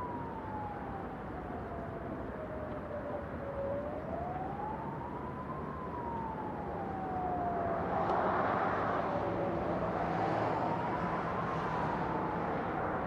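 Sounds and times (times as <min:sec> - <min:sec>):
siren wailing: 0:00.0 - 0:12.8
background noise: 0:00.0 - 0:13.0.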